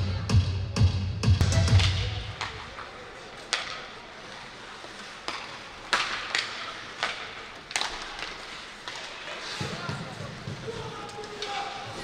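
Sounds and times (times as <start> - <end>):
hockey stick and puck clacks: 1.9 - 12.0.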